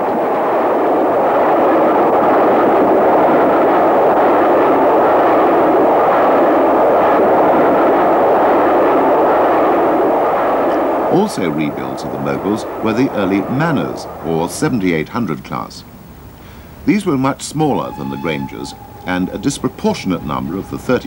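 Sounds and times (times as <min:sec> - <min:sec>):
train rushing over rails: 0:00.0 - 0:21.0.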